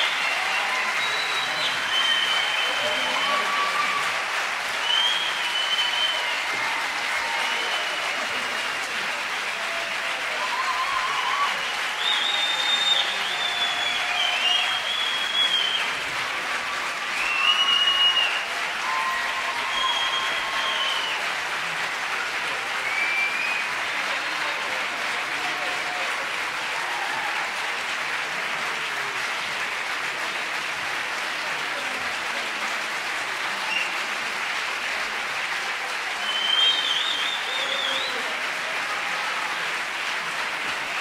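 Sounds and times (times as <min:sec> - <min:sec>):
audience applauding: 0:00.0 - 0:41.0.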